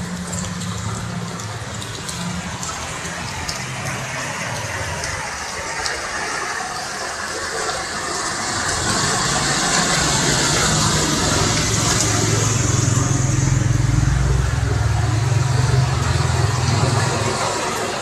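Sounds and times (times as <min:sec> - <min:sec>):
rain: 0:00.0 - 0:18.0
rushing water: 0:00.0 - 0:18.0
vehicle engine driving through water: 0:00.0 - 0:18.0.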